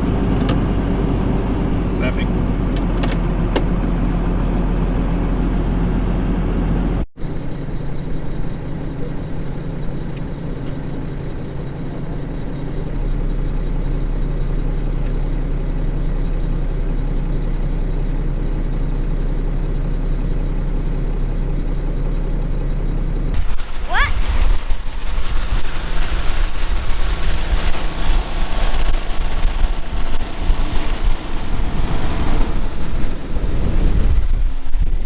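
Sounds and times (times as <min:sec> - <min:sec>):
farm machinery engine humming: 0:00.0 - 0:35.0.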